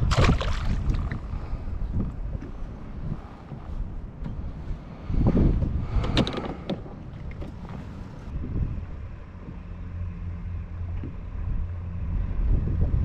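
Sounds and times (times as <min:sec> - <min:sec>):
wind buffeting microphone: 0:00.0 - 0:10.2, 0:10.8 - 0:13.0.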